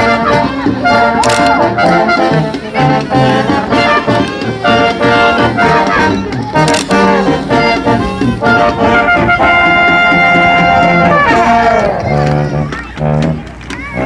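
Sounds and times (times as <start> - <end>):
brass band playing: 0.0 - 14.0
low bass line: 0.0 - 14.0
percussion beat: 0.0 - 14.0
trumpets and trombones melody: 0.0 - 14.0.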